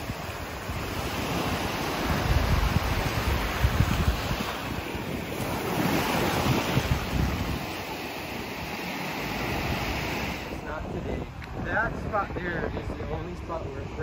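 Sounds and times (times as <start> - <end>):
small waves breaking on beach: 0.0 - 14.0
wind gusting on microphone: 0.0 - 14.0.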